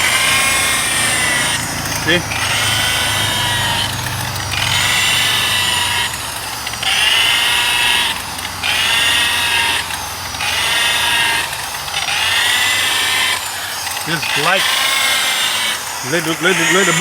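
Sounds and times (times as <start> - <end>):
rotary buffer motor whine: 0.0 - 17.0.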